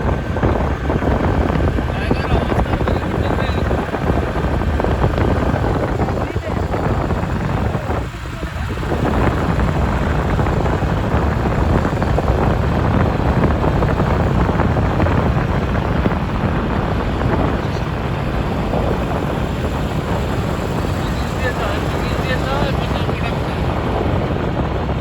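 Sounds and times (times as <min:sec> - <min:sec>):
motorbike engine running: 0:00.0 - 0:25.0
wind rushing over microphone: 0:00.0 - 0:25.0.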